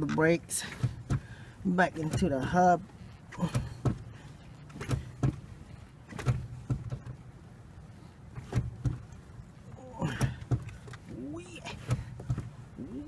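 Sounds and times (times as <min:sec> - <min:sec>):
brake pedal knocks and clicks: 0:00.0 - 0:13.0.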